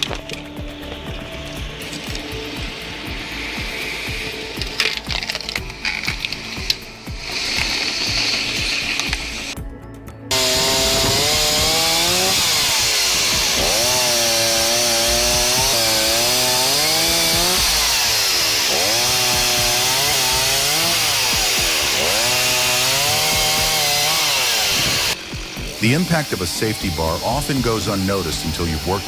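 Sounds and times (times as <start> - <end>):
chainsaw cutting wood: 0.0 - 9.6, 10.3 - 29.0.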